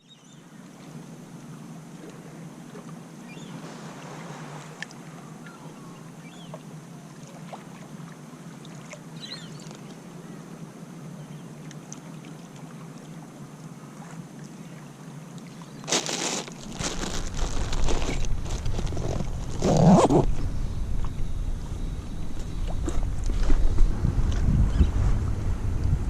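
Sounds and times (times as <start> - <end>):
wind: 0.0 - 26.0
surf: 1.9 - 26.0.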